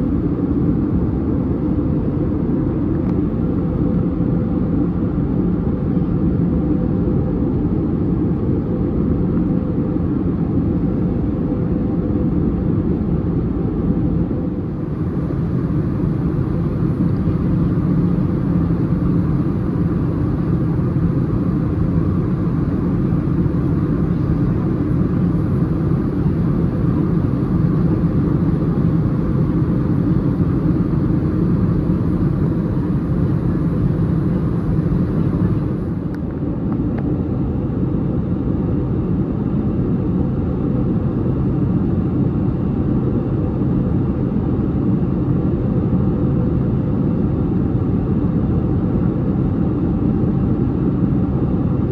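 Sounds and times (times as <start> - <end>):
airplane cabin drone: 0.0 - 51.9.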